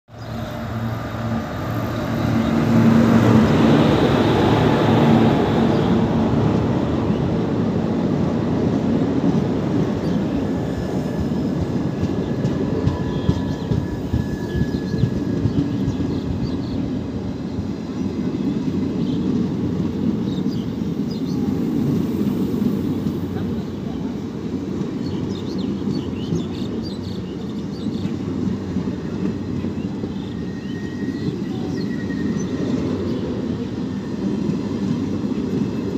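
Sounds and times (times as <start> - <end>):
electric locomotive hum: 0.1 - 35.9
train wheels rolling on rails: 0.2 - 35.9.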